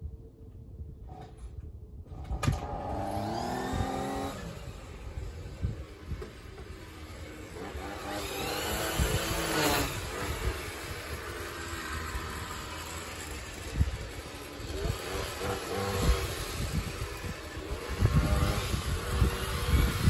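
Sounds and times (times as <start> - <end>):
small gas engine revving: 2.1 - 20.0.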